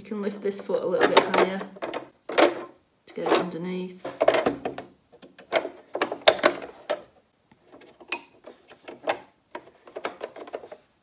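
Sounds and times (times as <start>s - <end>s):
metal clicks and knocks: 1.0s - 10.8s.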